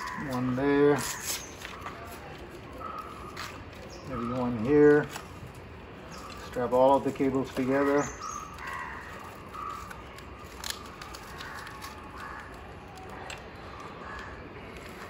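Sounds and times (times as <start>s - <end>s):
birds calling harshly: 0.0s - 15.0s.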